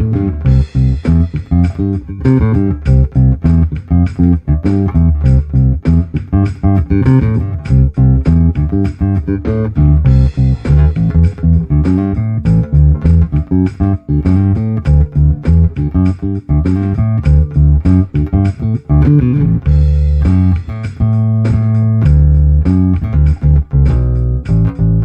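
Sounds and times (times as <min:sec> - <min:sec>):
drum loop: 0:00.0 - 0:25.0
electric bass guitar groove: 0:00.0 - 0:25.0.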